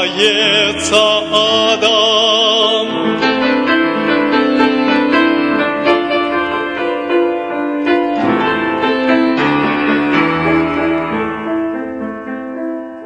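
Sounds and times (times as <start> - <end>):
keyboard playing hymn chords: 0.0 - 12.9.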